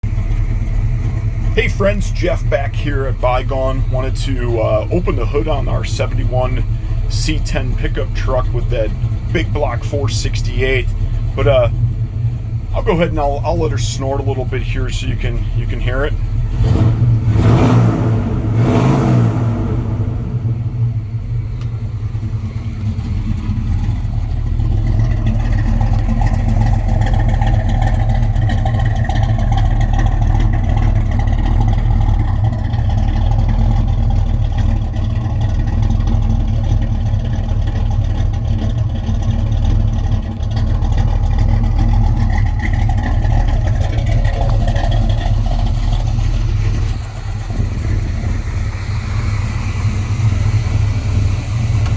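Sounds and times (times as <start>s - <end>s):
engine revving and running: 0.0s - 51.9s.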